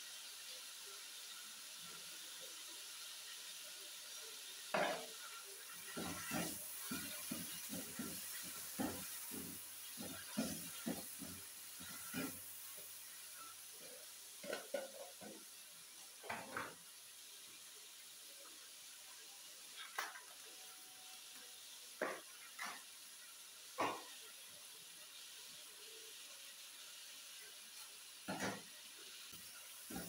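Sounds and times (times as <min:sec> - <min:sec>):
faint sizzle: 0:00.0 - 0:30.0.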